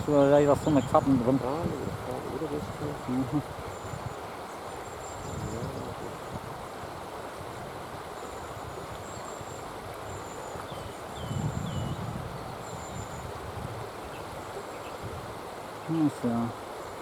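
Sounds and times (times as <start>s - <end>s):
river rushing: 0.0s - 11.4s, 12.0s - 17.0s.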